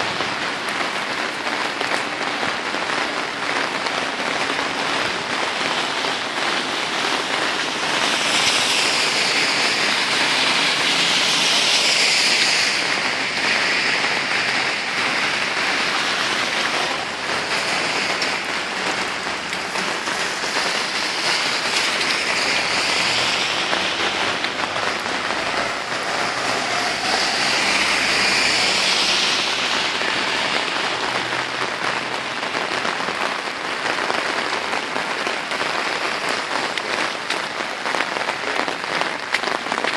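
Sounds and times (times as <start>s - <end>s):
heavy rain on wet pavement: 0.0s - 39.9s.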